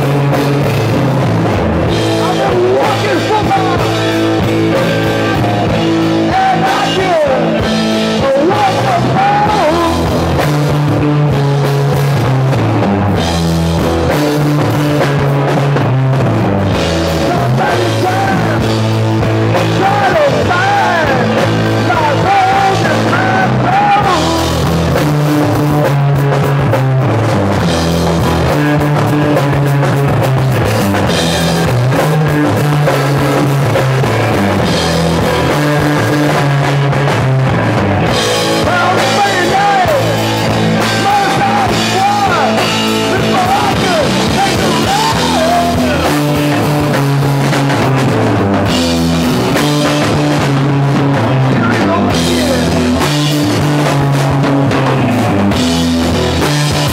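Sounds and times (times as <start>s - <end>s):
rock band playing live: 0.0s - 56.9s.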